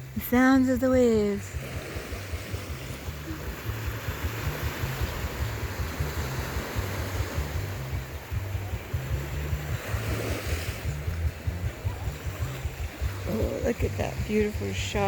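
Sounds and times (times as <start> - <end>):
ocean surf washing: 0.0 - 15.0
wind rumbling on microphone: 0.0 - 15.0.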